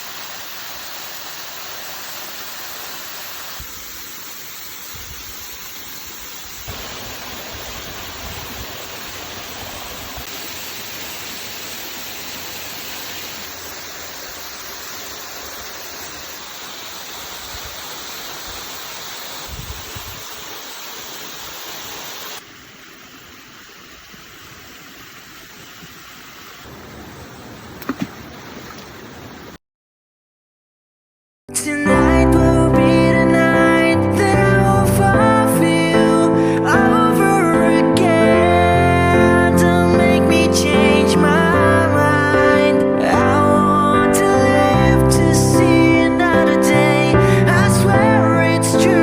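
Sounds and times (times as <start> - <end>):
rushing water hiss: 0.0 - 29.6, 32.8 - 49.0.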